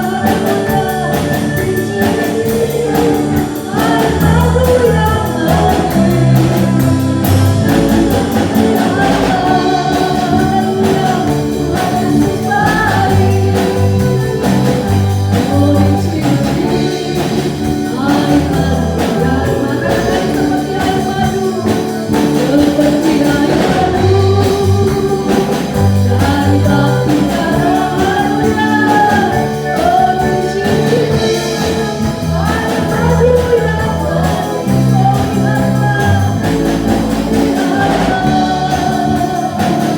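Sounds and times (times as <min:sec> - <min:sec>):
instrumental backing with bass: 0:00.0 - 0:39.9
person singing worship song: 0:00.0 - 0:39.9.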